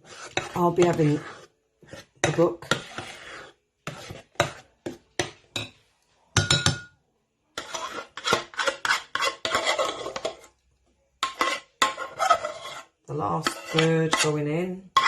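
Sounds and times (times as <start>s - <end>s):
spoon scraping and stirring: 0.0s - 15.0s.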